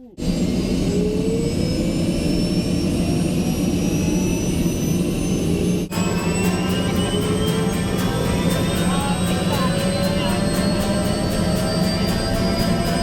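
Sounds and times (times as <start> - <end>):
helicopter turbine engine whining: 0.0 - 13.0.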